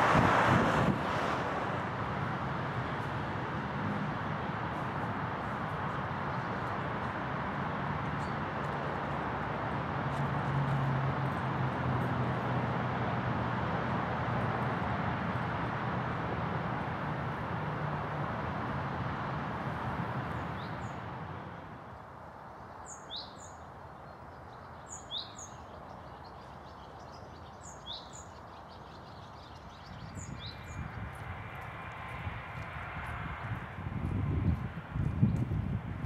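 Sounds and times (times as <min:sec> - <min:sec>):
outdoor rushing noise with hum: 0:00.0 - 0:23.0, 0:29.0 - 0:36.0.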